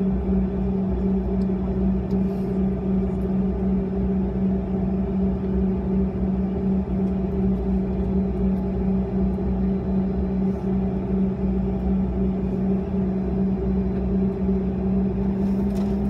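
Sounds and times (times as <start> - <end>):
jet engines idling drone: 0.0 - 16.0.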